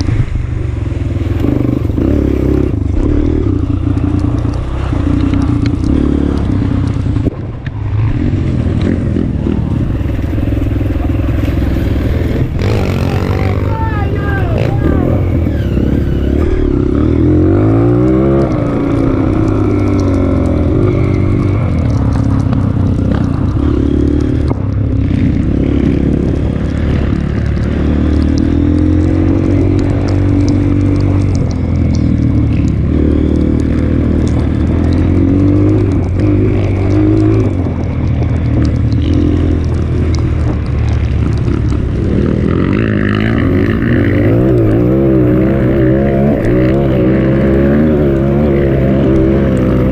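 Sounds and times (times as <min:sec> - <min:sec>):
motorbike engine revving: 0:00.7 - 0:49.9.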